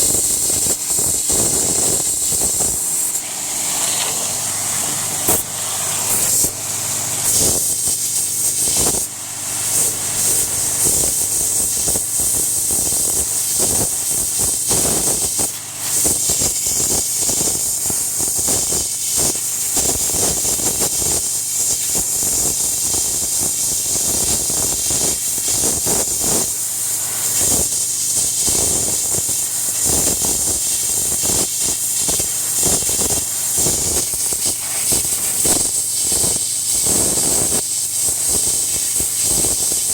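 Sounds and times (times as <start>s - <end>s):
pressure washer motor running: 0.0s - 39.9s
pressure washer spraying wood: 0.0s - 39.9s.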